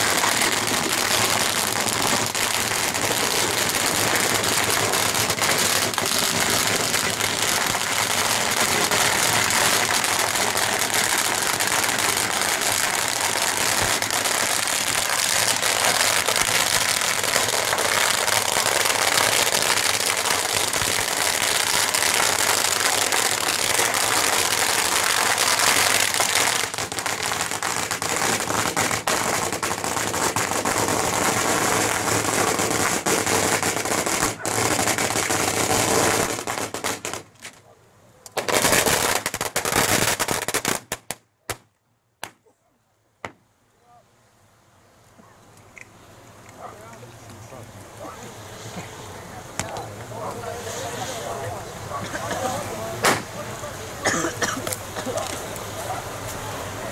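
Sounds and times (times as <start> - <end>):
firecrackers crackling: 0.0 - 42.5, 45.6 - 56.9.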